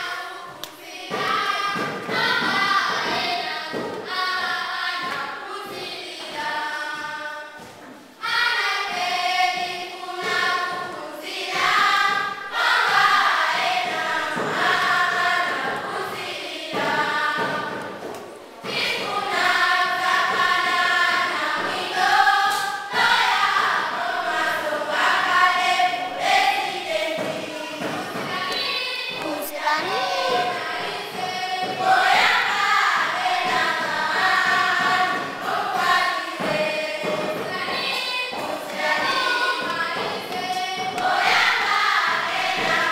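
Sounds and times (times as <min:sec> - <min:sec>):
children's choir singing: 0:00.0 - 0:42.9.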